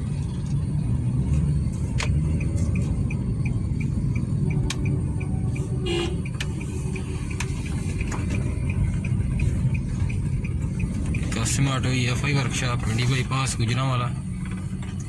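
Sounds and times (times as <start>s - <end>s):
car engine and tyres rumbling: 0.0s - 15.0s
light even ticking: 0.0s - 15.0s.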